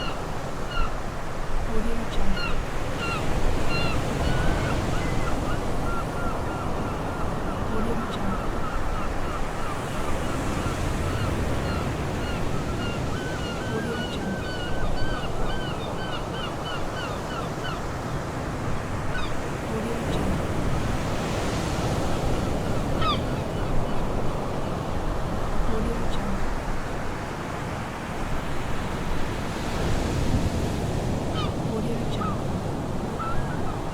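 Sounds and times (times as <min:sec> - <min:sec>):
seagulls calling: 0:00.0 - 0:01.1, 0:01.8 - 0:25.1, 0:31.1 - 0:33.9
surf washing on a beach: 0:00.0 - 0:33.9.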